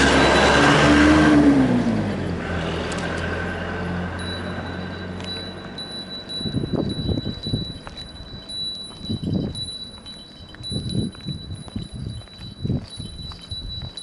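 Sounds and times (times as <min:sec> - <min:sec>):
railroad crossing alarm chime: 0:00.0 - 0:01.5, 0:03.7 - 0:14.0.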